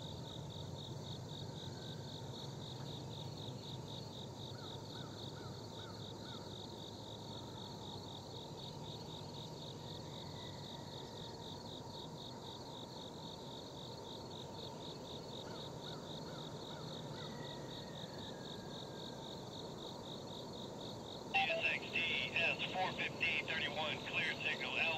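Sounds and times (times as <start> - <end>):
insect chirping: 0.1 - 21.3.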